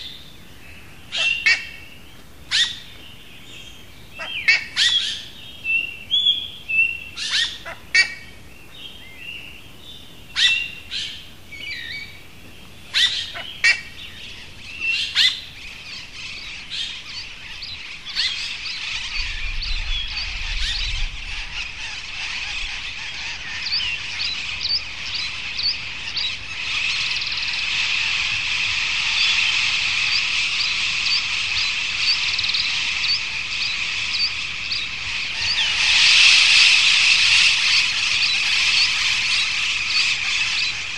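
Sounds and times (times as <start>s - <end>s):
birds chirping: 0.0s - 40.9s
chorus of many birds: 0.0s - 40.9s.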